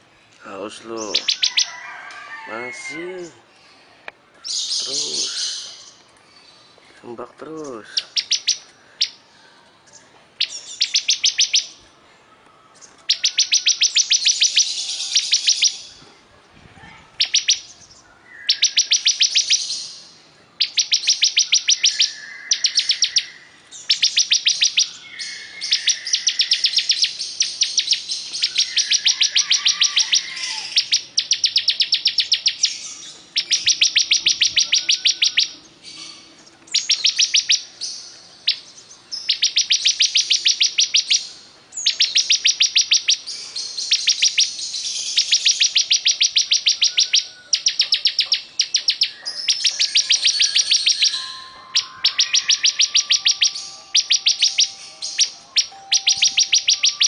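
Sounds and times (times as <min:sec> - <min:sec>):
bird singing high ticking notes: 0:00.0 - 0:03.8, 0:04.4 - 0:12.0, 0:12.7 - 0:16.0, 0:17.2 - 0:57.0.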